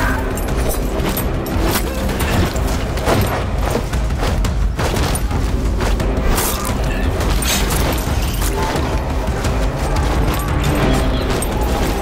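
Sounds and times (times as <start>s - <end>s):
dramatic orchestral music: 0.0s - 12.0s.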